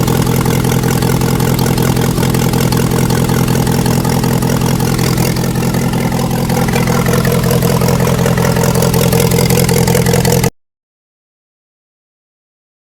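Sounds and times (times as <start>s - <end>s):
engine running: 0.0s - 10.5s.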